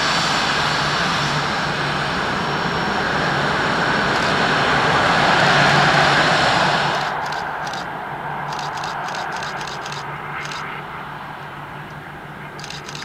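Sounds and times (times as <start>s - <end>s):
jet engines taxiing past: 0.0s - 13.0s.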